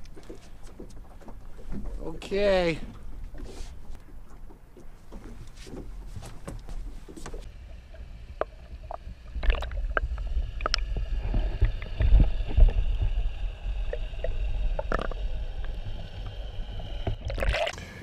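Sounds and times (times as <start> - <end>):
muffled underwater rumble and sloshing: 0.0 - 17.6.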